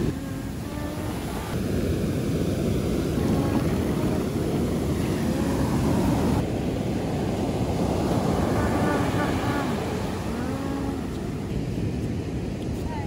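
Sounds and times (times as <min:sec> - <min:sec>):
ocean surf washing up a beach: 0:00.0 - 0:13.0
wind rumbling on microphone: 0:00.0 - 0:13.0.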